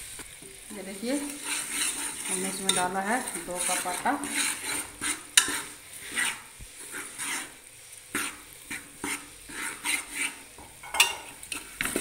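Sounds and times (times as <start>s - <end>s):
metal ladle scraping a pot: 1.2s - 12.0s.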